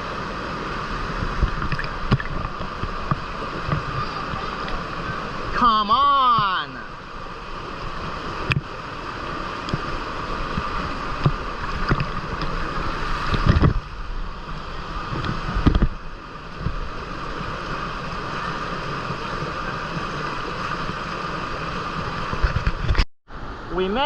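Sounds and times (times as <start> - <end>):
river and waterfall rushing: 0.0 - 24.0.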